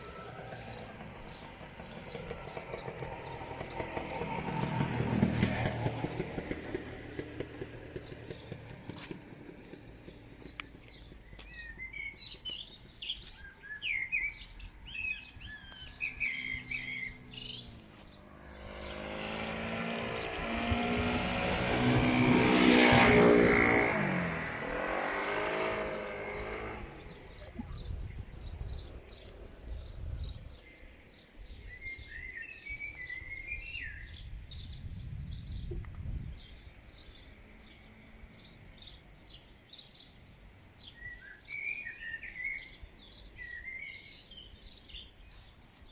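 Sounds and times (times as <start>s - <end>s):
motor vehicle passing by: 0.0s - 45.9s
small birds chirping and singing: 0.0s - 45.9s.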